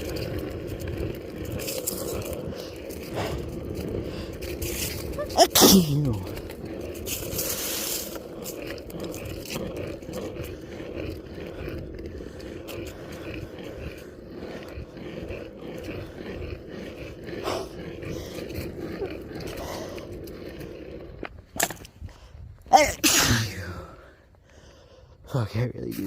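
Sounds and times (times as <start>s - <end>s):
skateboard wheels rolling on pavement: 0.0s - 26.0s.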